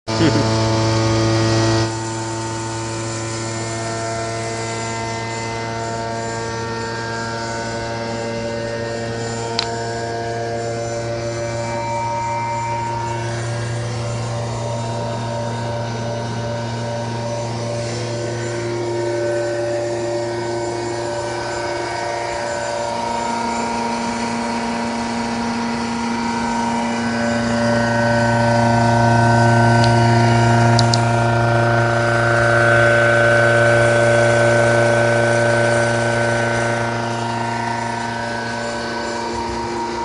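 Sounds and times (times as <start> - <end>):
rotating machine humming: 0.1 - 40.0.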